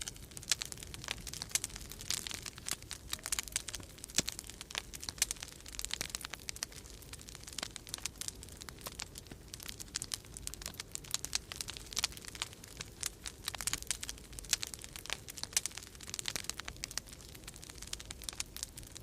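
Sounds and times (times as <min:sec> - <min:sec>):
low rumble of wind: 0:00.0 - 0:19.0
wood fire crackling: 0:00.0 - 0:19.0.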